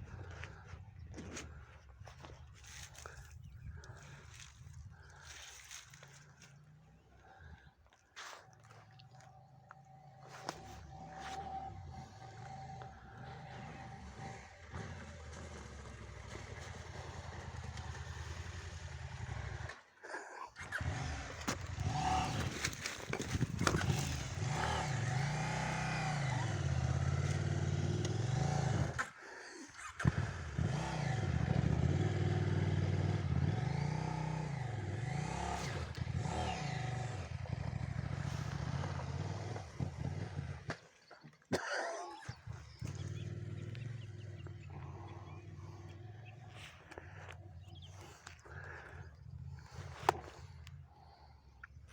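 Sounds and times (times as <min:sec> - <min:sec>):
motorcycle engine revving: 0:09.0 - 0:19.9, 0:20.5 - 0:51.9.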